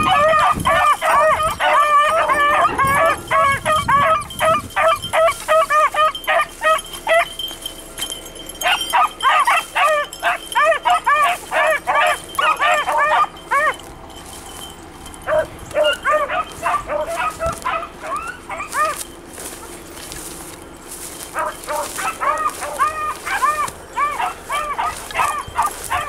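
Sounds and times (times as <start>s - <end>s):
beagles baying: 0.0s - 26.0s.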